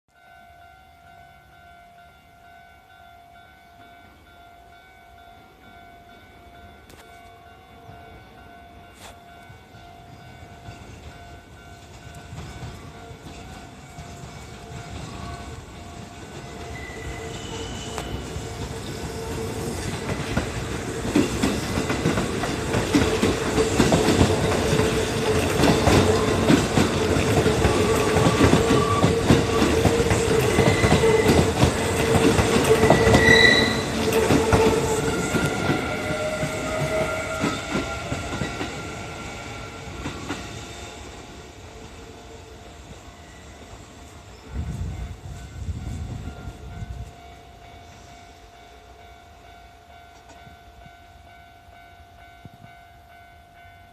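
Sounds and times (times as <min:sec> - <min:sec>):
electric train passing: 0:00.2 - 0:53.9.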